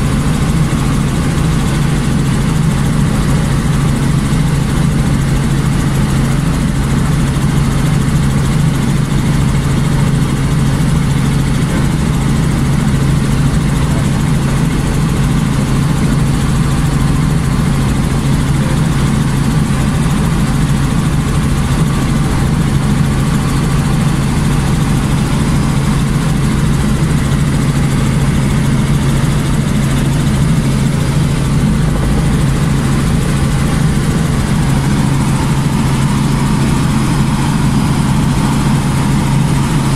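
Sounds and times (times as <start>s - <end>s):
helicopter engine and rotors drone: 0.0s - 39.9s.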